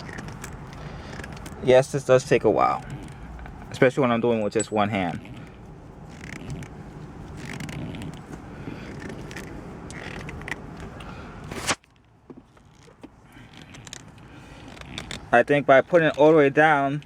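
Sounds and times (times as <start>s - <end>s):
shift knob scraping and creaking: 0.0s - 1.7s, 2.3s - 3.9s, 4.8s - 16.4s.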